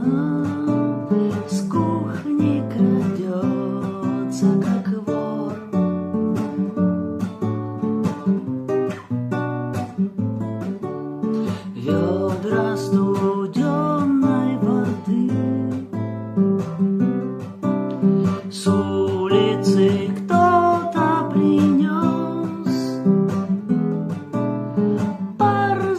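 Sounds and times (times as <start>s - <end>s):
acoustic guitar strumming chords: 0.0s - 25.9s
bending guitar melody: 0.0s - 25.9s.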